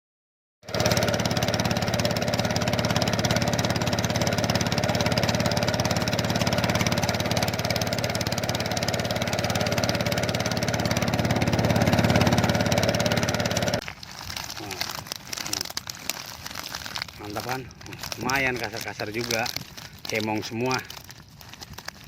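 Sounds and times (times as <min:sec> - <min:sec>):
small engine running: 0:00.6 - 0:22.0.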